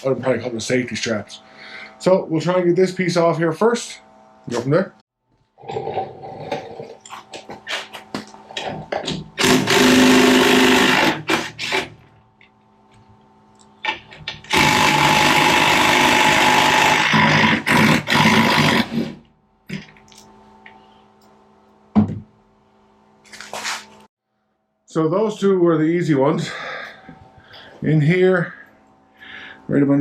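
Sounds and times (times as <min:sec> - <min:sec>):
steady hum: 0:00.0 - 0:05.0, 0:06.4 - 0:30.0.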